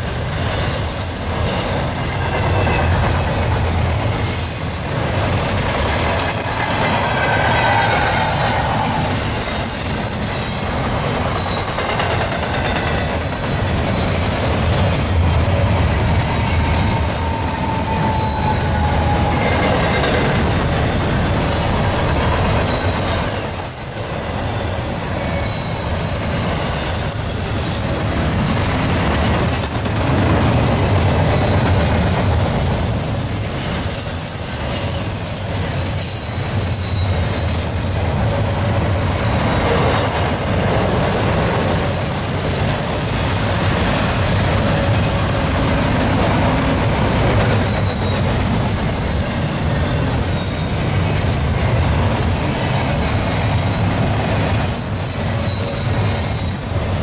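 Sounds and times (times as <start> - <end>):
high-pitched wheel squeals: 0.0 - 15.1, 15.9 - 28.3, 32.7 - 38.2, 38.8 - 43.4, 44.0 - 51.2, 53.2 - 57.0
freight train rolling past: 0.0 - 57.0.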